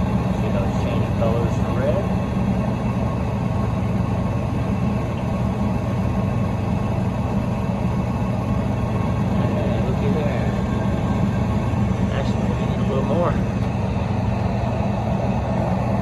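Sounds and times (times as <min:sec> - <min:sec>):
kitchen equipment humming: 0:00.0 - 0:16.0.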